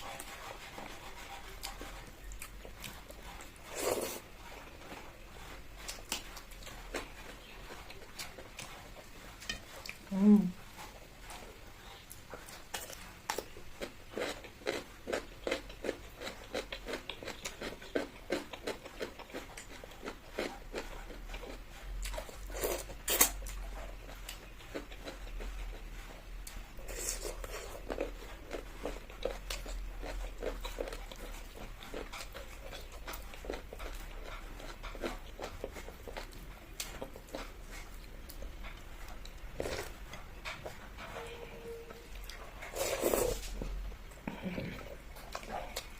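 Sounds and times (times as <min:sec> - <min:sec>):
person chewing and crunching food: 0:00.0 - 0:45.9.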